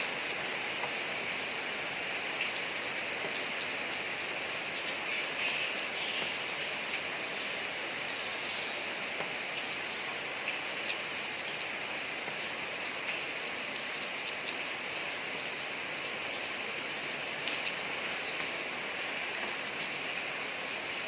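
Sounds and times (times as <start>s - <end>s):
rain falling on street: 0.0s - 21.0s.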